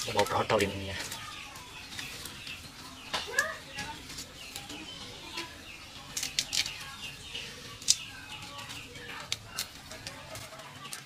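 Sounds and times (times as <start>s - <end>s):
dry seed heads snapping: 0.0s - 11.0s
small birds chirping: 0.0s - 11.0s.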